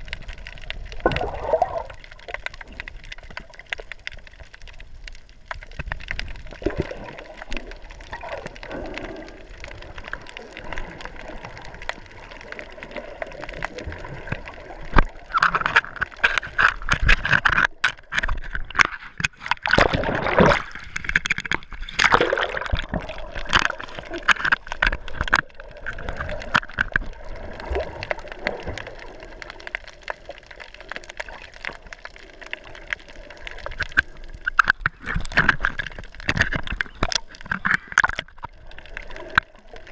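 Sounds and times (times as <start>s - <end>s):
bubbly wash with clicks: 0.0s - 39.9s
water sloshing and splashing: 0.0s - 39.9s.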